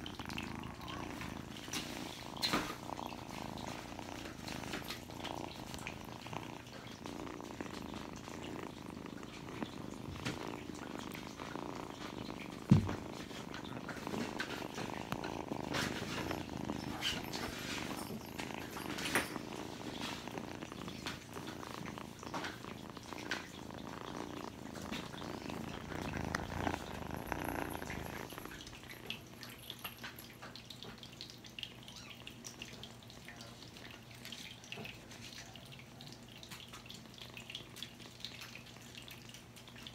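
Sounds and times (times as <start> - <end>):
faint steady hum: 0.0 - 39.9
kitten purring: 0.0 - 39.9.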